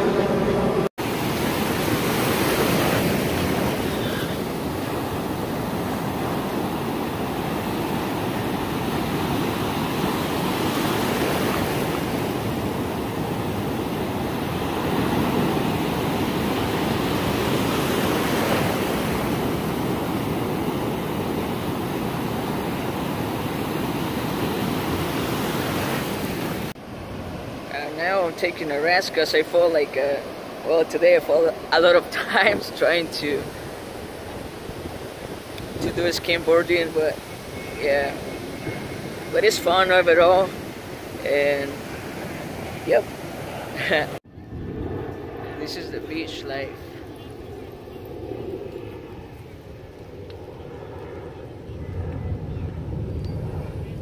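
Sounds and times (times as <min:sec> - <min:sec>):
ocean waves breaking: 0:00.0 - 0:44.3.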